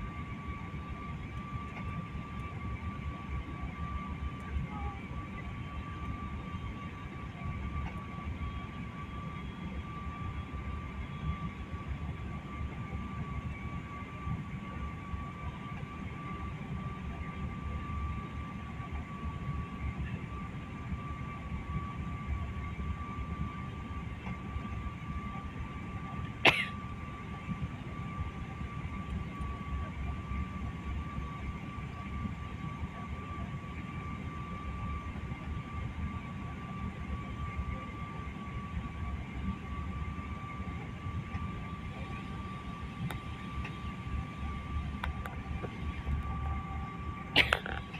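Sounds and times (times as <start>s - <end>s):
airliner cabin rumble: 0.0s - 47.9s
faint steady whine: 0.0s - 47.9s.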